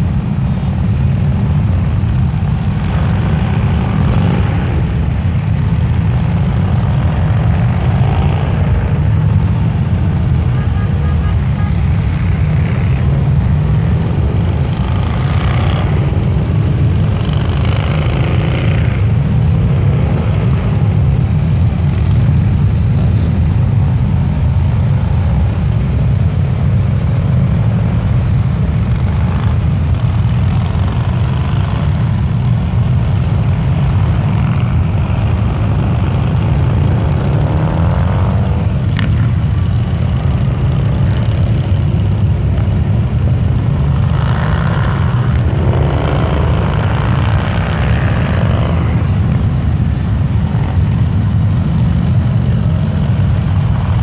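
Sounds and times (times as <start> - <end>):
motorcycle engines rumbling: 0.0 - 54.0
motorcycle revving: 0.0 - 54.0.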